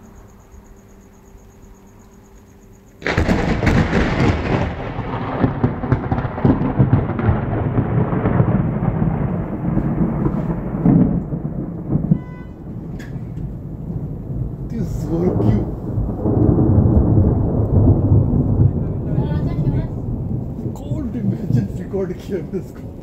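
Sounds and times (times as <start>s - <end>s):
thunderclap and rumble: 3.0s - 23.0s.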